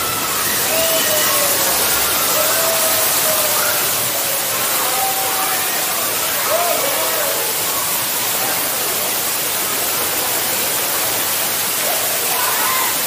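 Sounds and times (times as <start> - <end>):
water falling and running: 0.0 - 13.0.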